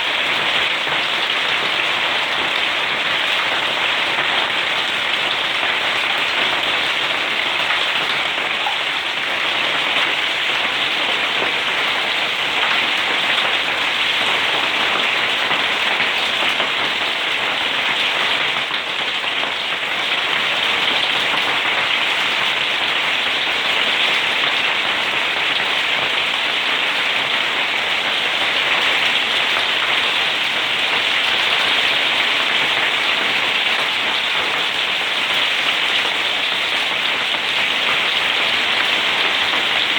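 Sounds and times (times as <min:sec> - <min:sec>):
hail pattering: 0:00.0 - 0:39.9.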